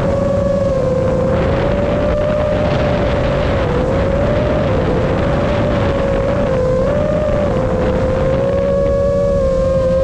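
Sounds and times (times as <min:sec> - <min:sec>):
drone motors whining: 0:00.0 - 0:10.0
wind buffeting microphone: 0:00.0 - 0:10.0.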